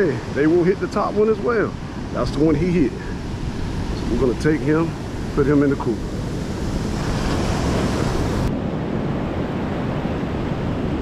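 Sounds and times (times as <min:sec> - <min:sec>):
waves breaking on beach: 0:00.0 - 0:11.0
wind on microphone: 0:00.0 - 0:11.0.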